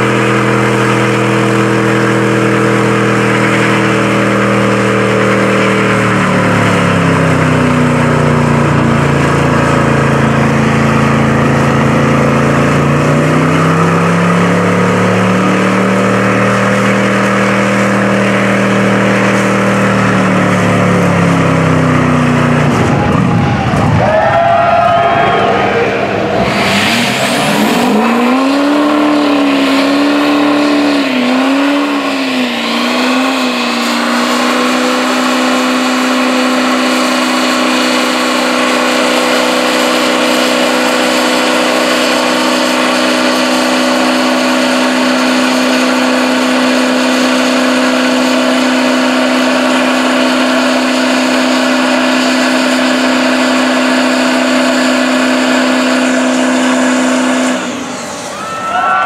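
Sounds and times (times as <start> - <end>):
pickup engine revving: 0.0 - 58.4.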